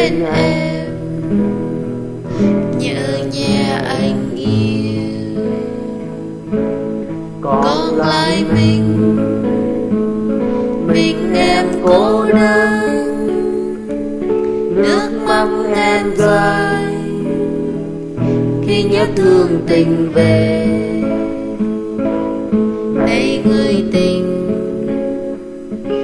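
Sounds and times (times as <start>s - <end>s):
acoustic guitar instrumental music: 0.0s - 26.0s.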